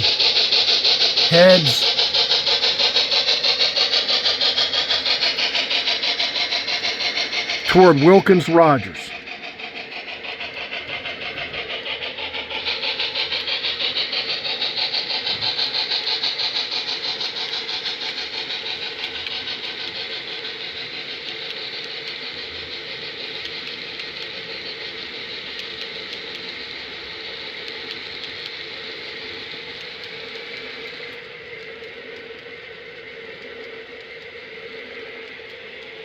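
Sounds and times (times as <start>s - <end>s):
model steam locomotive chuffing: 0.0s - 8.0s, 8.6s - 36.0s.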